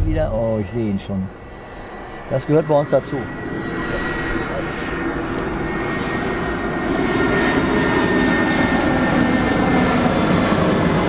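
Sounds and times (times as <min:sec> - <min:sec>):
high engine whine: 0:00.0 - 0:11.0
jet airliner passing overhead: 0:00.0 - 0:11.0.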